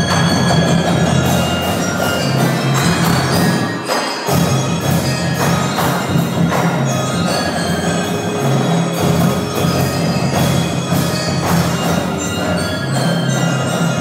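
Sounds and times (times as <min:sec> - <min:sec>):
drums: 0:00.0 - 0:14.0
mallet keyboards ringing: 0:00.0 - 0:14.0.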